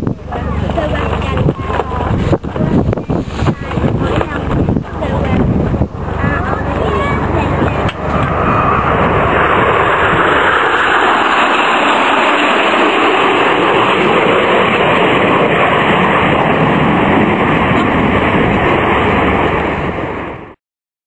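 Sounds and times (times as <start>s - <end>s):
jet engine roar: 0.0s - 20.6s.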